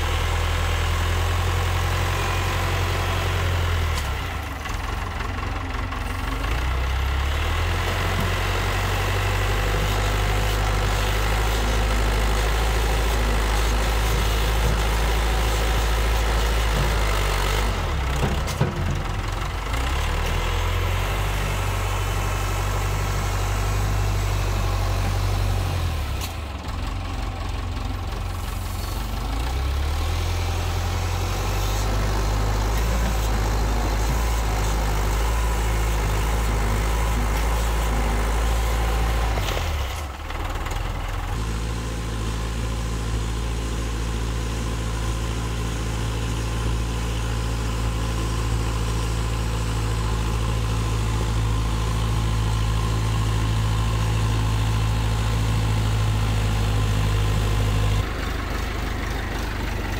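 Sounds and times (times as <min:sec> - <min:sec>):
backhoe loader engine running: 0:00.0 - 0:59.9.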